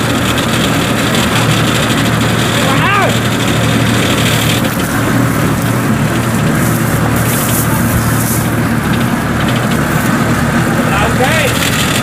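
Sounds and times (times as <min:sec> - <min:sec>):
farm machine engines humming: 0:00.0 - 0:12.0.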